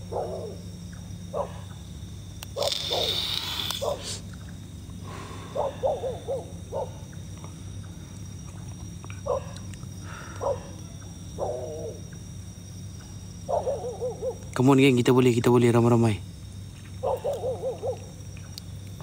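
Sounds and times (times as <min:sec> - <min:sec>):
distant animal calls: 0:00.0 - 0:14.6, 0:16.7 - 0:18.2
steady low hum: 0:00.0 - 0:19.0.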